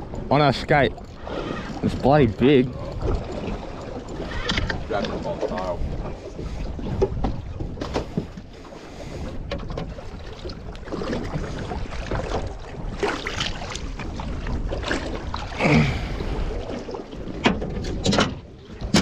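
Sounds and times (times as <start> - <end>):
water splashing: 0.0 - 19.0
wind rumbling on microphone: 0.0 - 19.0.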